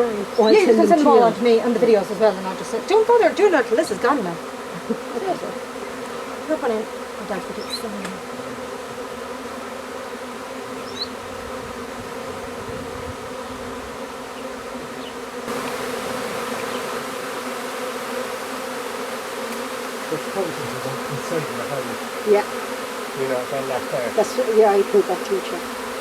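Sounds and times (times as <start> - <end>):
bee swarm buzzing: 0.0 - 26.0.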